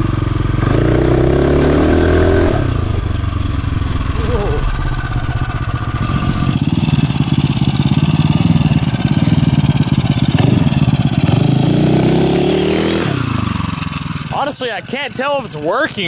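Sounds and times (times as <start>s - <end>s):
dirt bike engine accelerating: 0.0s - 14.6s.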